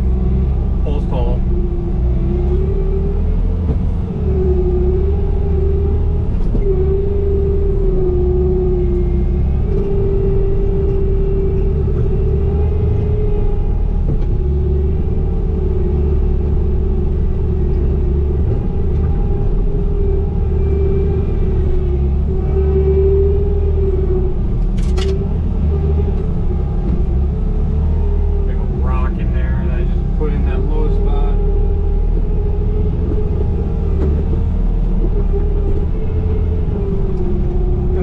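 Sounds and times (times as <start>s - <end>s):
diesel engine rumbling with whine: 0.0s - 38.0s.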